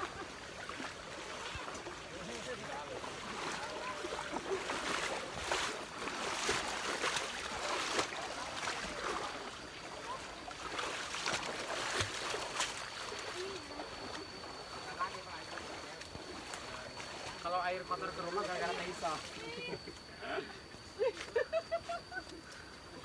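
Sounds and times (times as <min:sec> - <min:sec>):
stream water rushing: 0:00.0 - 0:19.5
water splashes: 0:00.0 - 0:19.8.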